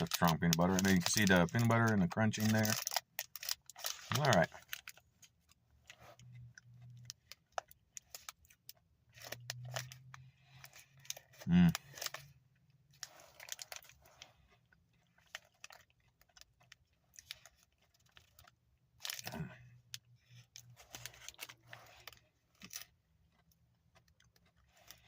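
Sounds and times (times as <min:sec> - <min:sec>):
chewing crunchy chocolate: 0:00.0 - 0:25.0.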